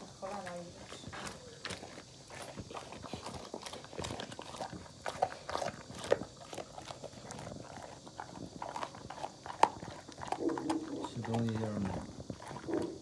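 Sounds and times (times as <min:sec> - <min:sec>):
dog chewing bones: 0:00.1 - 0:13.0
bones cracking: 0:01.2 - 0:13.0.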